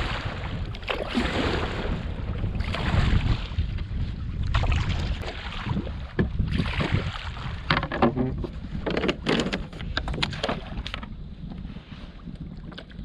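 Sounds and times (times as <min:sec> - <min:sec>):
paddle strokes splashing in water: 0:00.0 - 0:13.0
wind buffeting microphone: 0:00.0 - 0:13.0.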